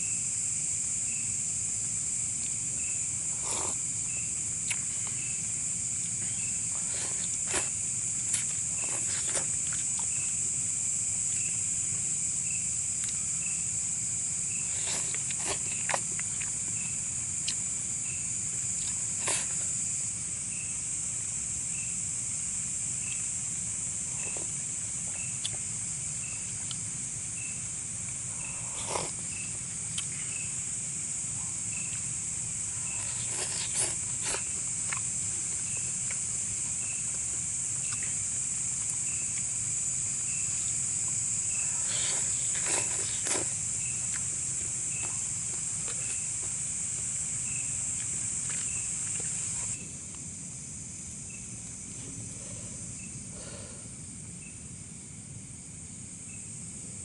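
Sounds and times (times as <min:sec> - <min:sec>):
insect shrill drone: 0:00.0 - 0:57.0
short insect chirp: 0:00.0 - 0:57.0.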